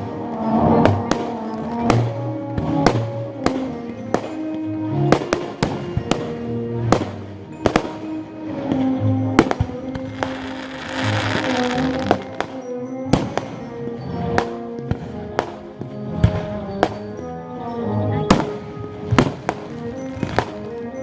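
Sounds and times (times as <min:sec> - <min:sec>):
fireworks banging: 0:00.0 - 0:17.3, 0:18.3 - 0:20.9.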